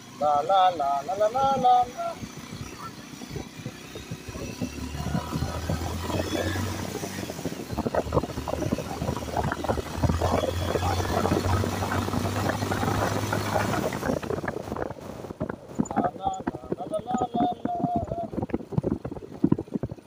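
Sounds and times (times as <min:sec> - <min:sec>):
motorcycle engine at low revs: 0:00.0 - 0:20.0
motorcycle rattling over bumps: 0:00.0 - 0:20.0.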